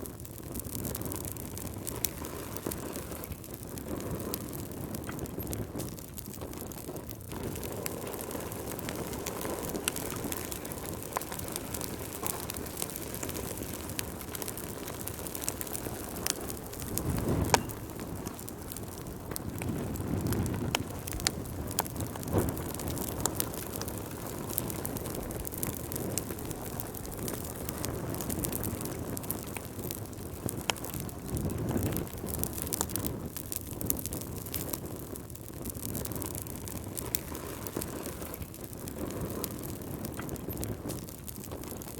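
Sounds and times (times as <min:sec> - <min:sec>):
rushes of flame: 0:00.0 - 0:41.9
wood fire crackling: 0:00.0 - 0:41.9.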